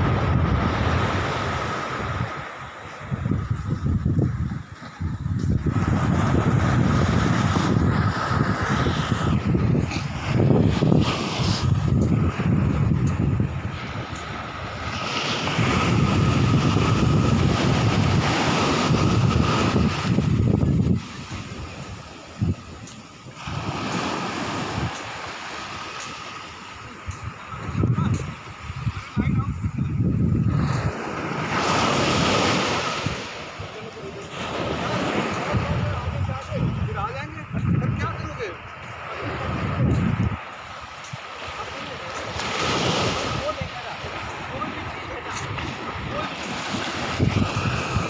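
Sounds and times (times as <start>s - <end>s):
sea water washing: 0.0s - 29.2s, 38.5s - 48.0s
wind buffeting microphone: 0.0s - 48.0s.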